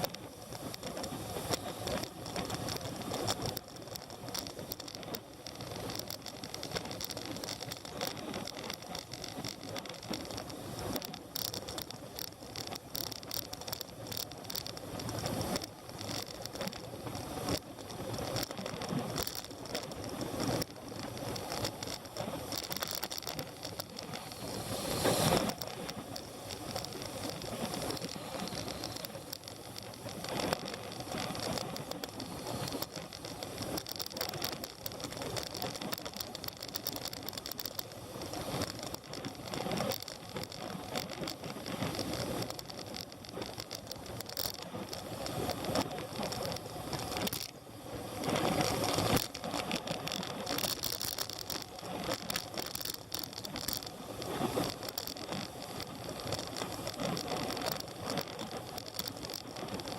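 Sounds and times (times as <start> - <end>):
small clatters: 0.0 - 59.9.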